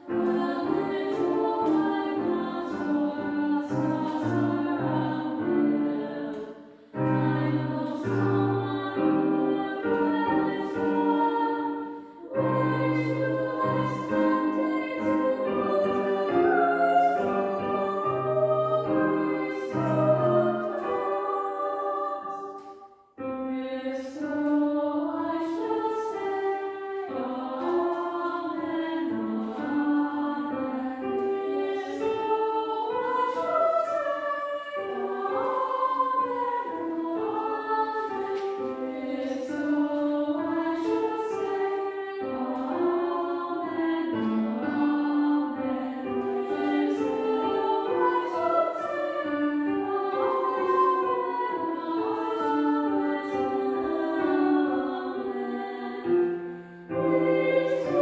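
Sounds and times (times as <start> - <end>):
choir singing in parts: 0.0 - 58.0.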